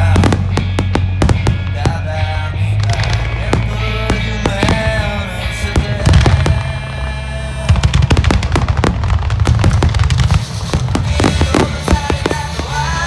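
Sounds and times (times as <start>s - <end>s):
fireworks bursting and crackling: 0.0s - 13.0s
loud music: 0.0s - 13.0s.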